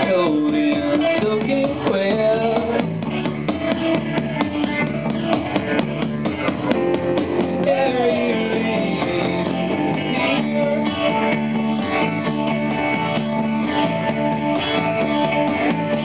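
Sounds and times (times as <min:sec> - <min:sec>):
live band playing: 0:00.0 - 0:16.0
strummed guitar: 0:00.0 - 0:16.0.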